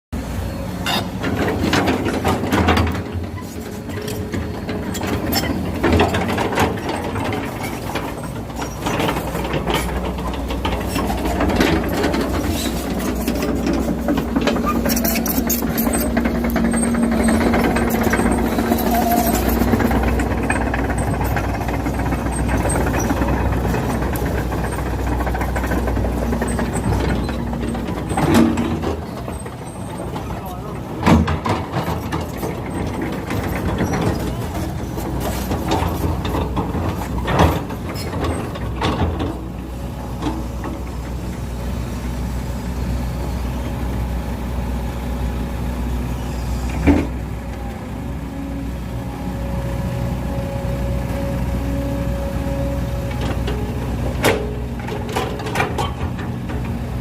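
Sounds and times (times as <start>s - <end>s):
engine knocks and clatter: 0.1s - 57.0s
truck engine droning: 0.2s - 57.0s.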